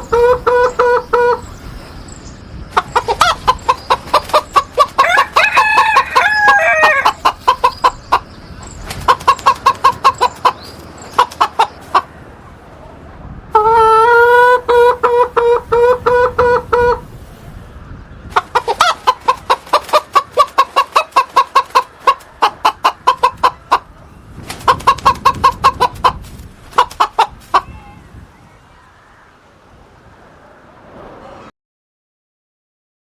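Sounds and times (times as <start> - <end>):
hen clucking: 0.0 - 12.8, 13.5 - 17.2, 17.8 - 31.3.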